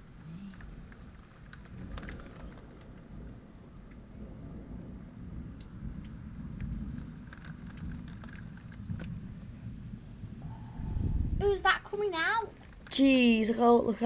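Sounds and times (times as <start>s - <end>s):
drips and ticks: 0.0s - 4.2s, 5.2s - 14.0s
heavy rain falling: 0.0s - 14.0s
low rumble of thunder: 0.0s - 14.0s.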